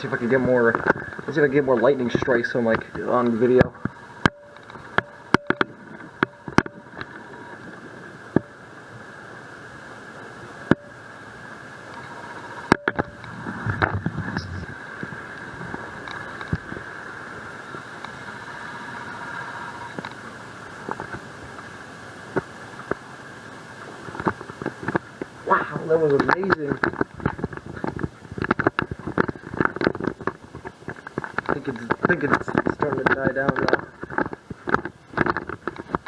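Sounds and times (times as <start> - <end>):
raindrops ticking on camera: 0.0 - 8.6, 10.6 - 36.0
heavy rain falling: 0.0 - 36.0.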